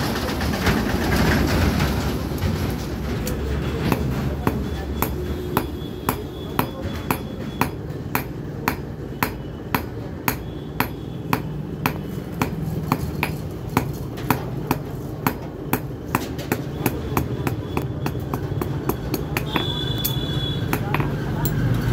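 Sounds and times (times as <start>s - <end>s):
hammer beating steel on anvil: 3.9s - 21.9s.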